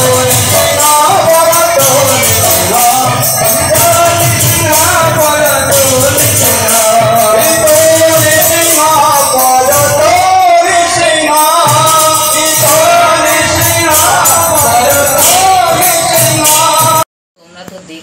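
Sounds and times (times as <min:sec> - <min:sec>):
devotional singing: 0:00.0 - 0:17.0
jingling percussion: 0:00.0 - 0:17.1.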